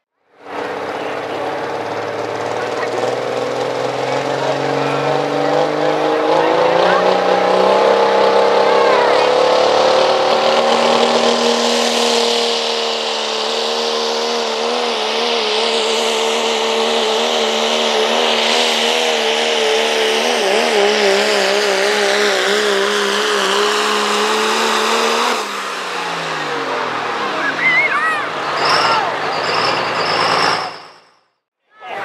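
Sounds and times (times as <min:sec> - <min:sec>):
diesel truck engine droning: 0:00.0 - 0:32.0.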